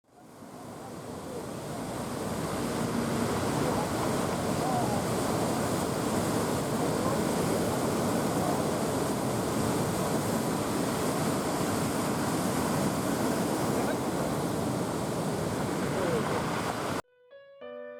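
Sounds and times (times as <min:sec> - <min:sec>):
surf washing on beach: 0:00.1 - 0:17.0
wind on microphone: 0:00.4 - 0:17.0.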